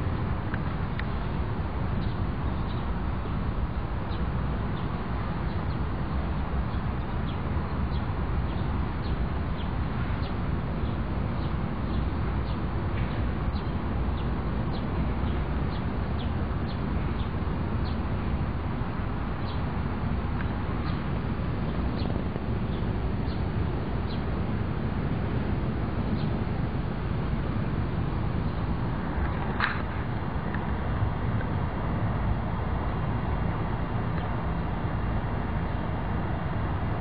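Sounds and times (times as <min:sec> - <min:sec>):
steady low rumble: 0:00.0 - 0:37.0
small birds chirping: 0:00.6 - 0:31.6.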